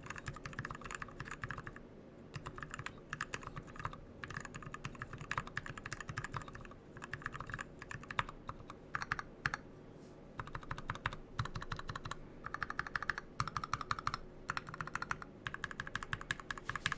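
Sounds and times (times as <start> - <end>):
mechanical keyboard typing: 0.0 - 9.6, 10.4 - 16.9.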